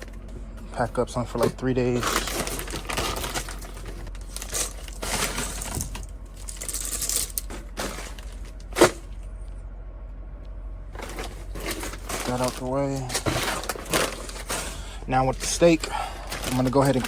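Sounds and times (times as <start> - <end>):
food packaging rustling: 0.0 - 9.2, 11.0 - 17.0.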